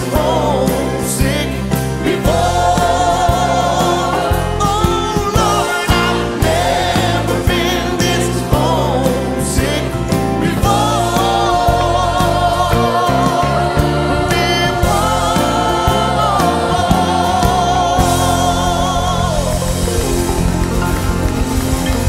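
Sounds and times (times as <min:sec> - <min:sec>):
man singing lead: 0:00.0 - 0:20.2
choir singing: 0:00.0 - 0:21.4
band playing a steady beat: 0:00.0 - 0:22.0.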